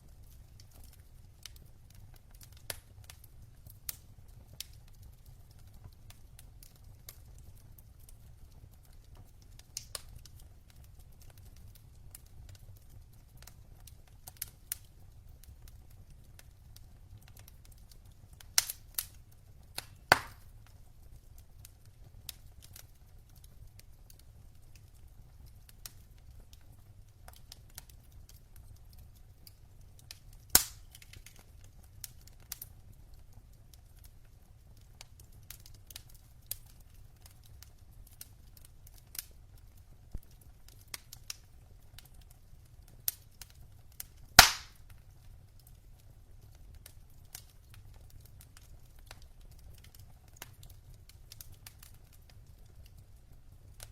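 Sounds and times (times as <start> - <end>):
burning logs crackling: 0.0 - 53.9.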